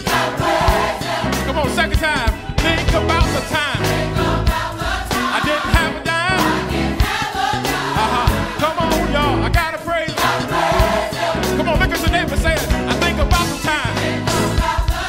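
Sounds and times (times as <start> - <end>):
heavy bass line: 0.0 - 14.9
drums: 0.0 - 15.0
gospel singing with vibrato: 0.0 - 15.0.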